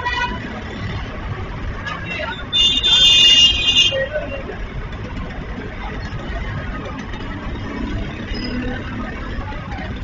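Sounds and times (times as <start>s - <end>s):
crowd voices: 0.0s - 10.0s
motor vehicle engines running: 0.0s - 10.0s.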